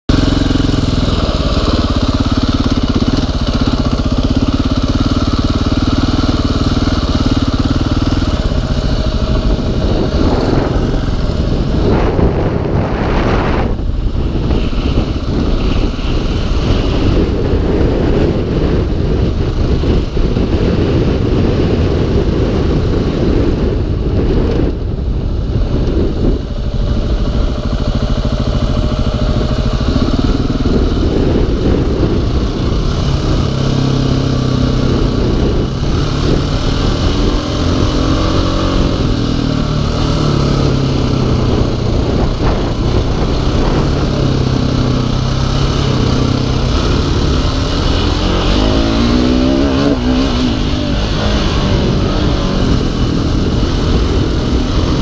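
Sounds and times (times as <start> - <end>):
motorcycle engine revving: 0.1 - 55.0
wind noise on microphone: 0.1 - 55.0.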